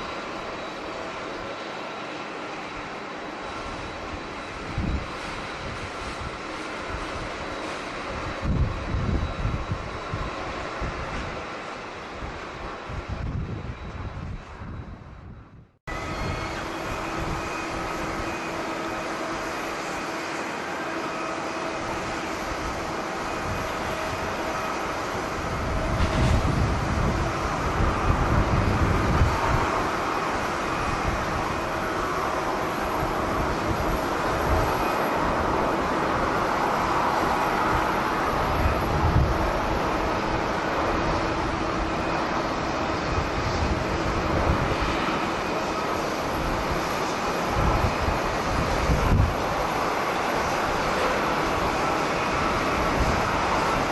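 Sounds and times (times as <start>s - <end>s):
jet engines whining and roaring: 0.0s - 53.9s
wind buffeting microphone: 3.5s - 20.4s, 21.0s - 53.9s.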